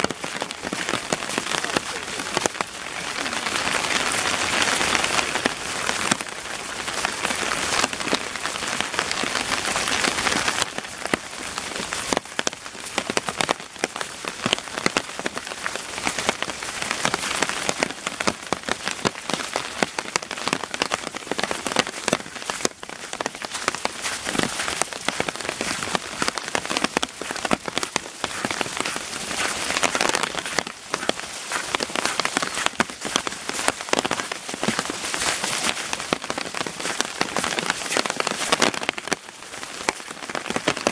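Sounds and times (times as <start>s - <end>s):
rain falling steadily: 0.0s - 40.9s
raindrops ticking: 0.0s - 40.9s.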